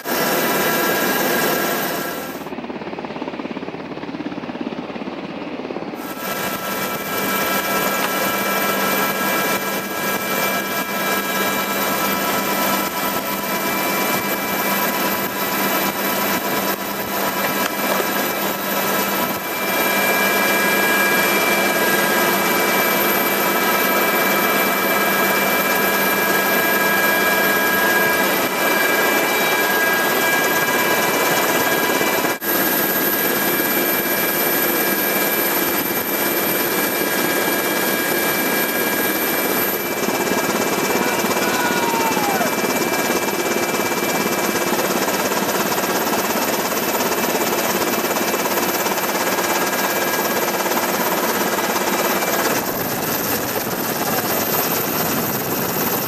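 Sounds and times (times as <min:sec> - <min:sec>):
helicopter rotor and turbine noise: 0:00.0 - 0:56.0.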